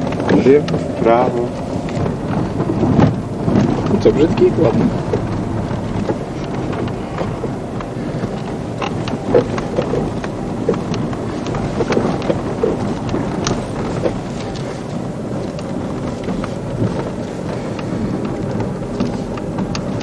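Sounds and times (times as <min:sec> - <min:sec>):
car cabin low rumble: 0:00.0 - 0:20.0
knocks and rattles: 0:00.0 - 0:20.0.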